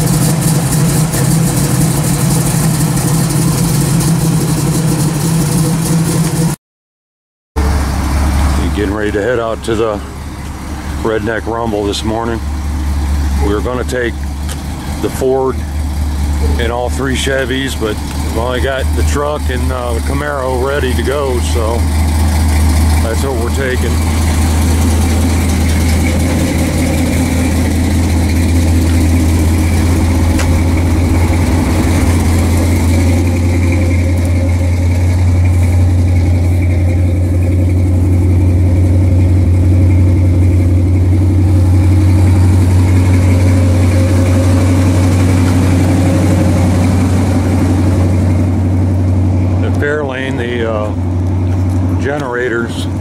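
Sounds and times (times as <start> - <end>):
car engine idling: 0.0 - 6.6, 7.6 - 53.0.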